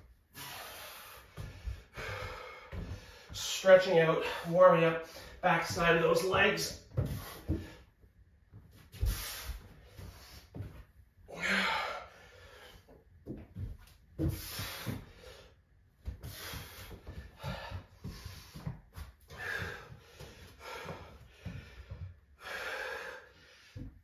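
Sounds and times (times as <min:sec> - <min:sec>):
man breathing hard: 0:00.0 - 0:03.5, 0:04.1 - 0:05.4, 0:06.9 - 0:08.0, 0:08.8 - 0:13.0, 0:14.2 - 0:24.0.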